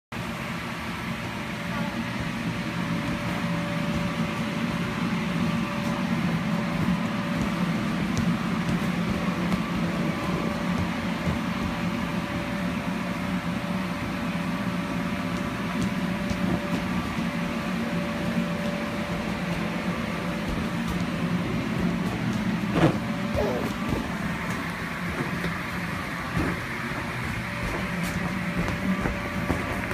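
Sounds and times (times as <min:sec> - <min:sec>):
electric blower droning: 0:00.2 - 0:29.9.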